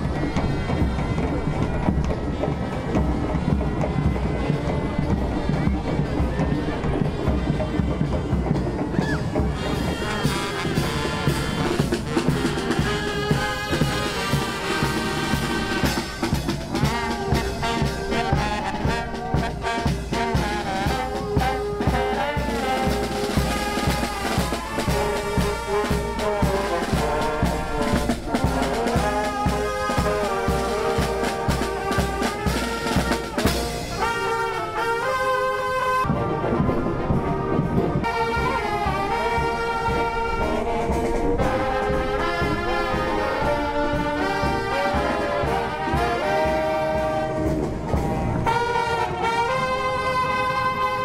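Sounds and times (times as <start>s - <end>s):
marching brass band: 0.0s - 51.0s.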